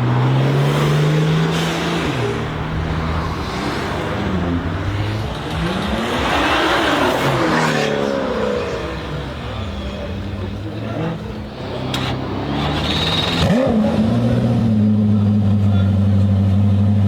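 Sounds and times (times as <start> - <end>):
sports car engines accelerating: 0.0 - 17.0.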